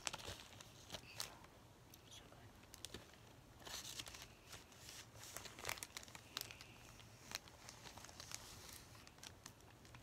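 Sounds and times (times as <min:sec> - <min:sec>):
plastic bag crinkling: 0:00.0 - 0:01.5, 0:02.6 - 0:10.0.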